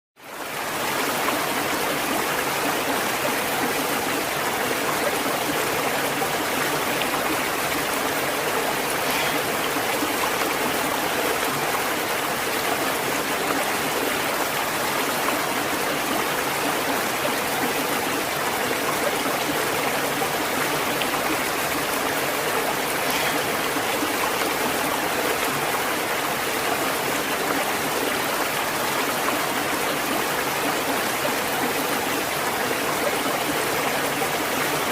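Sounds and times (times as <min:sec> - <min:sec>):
stream of flowing water: 0:00.2 - 0:34.9.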